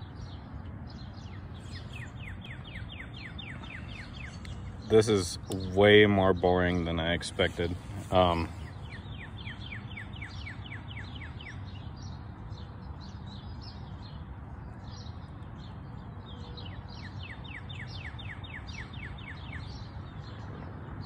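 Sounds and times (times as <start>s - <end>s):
songbird trilling: 1.0s - 14.2s, 14.8s - 20.5s.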